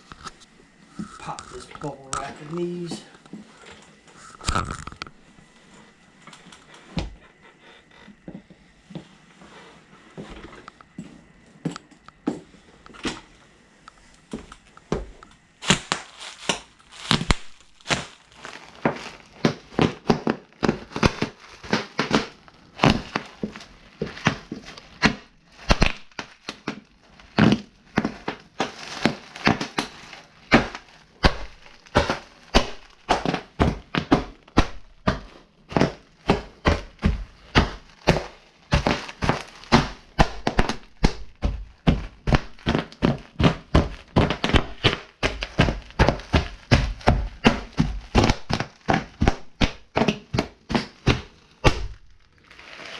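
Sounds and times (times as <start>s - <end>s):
bubble wrap popping: 0.0s - 3.0s, 4.1s - 5.2s, 14.4s - 52.9s.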